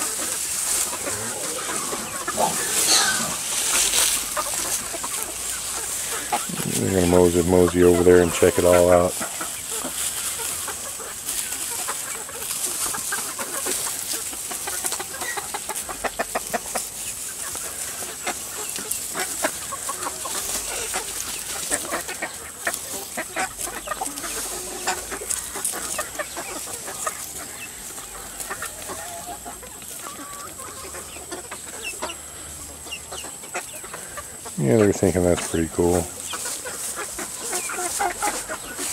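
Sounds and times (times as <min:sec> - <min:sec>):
hens clucking: 0:00.0 - 0:38.9.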